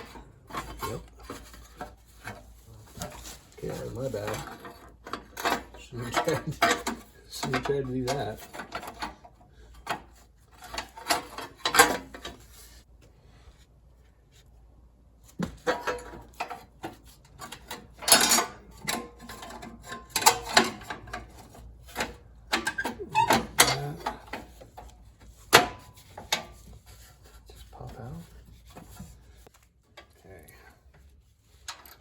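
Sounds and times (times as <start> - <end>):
hand tools and metal parts clinking: 0.0 - 12.8, 15.4 - 32.0.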